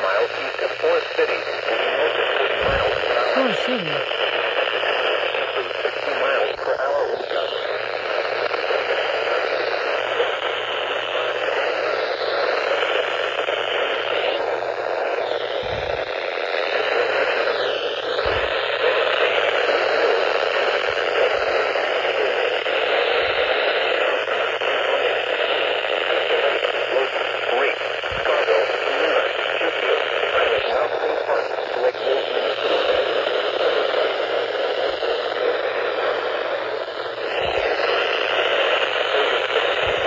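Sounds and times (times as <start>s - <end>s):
radio static hiss: 0.0s - 40.0s.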